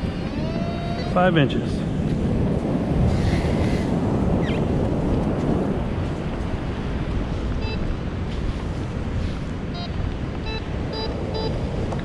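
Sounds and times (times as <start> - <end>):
beach surf rushing: 0.0 - 12.0
wind buffeting microphone: 0.0 - 12.0.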